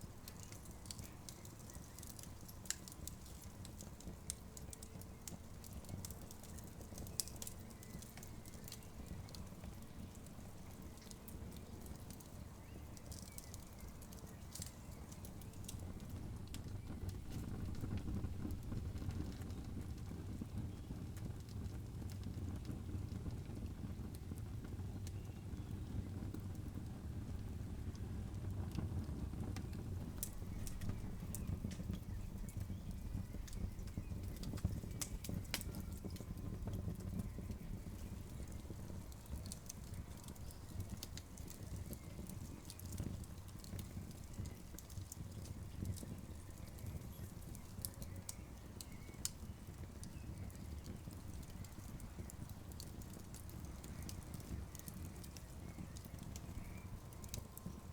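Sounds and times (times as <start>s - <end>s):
campfire crackling: 0.0s - 57.9s.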